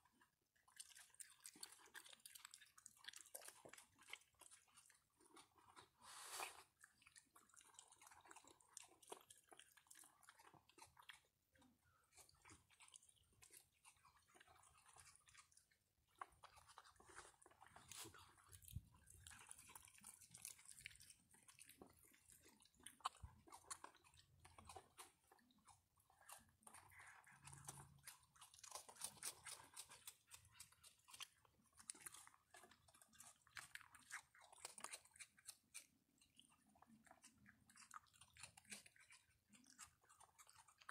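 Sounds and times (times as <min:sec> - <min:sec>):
raccoons chewing and crunching food: 0:00.0 - 0:40.9.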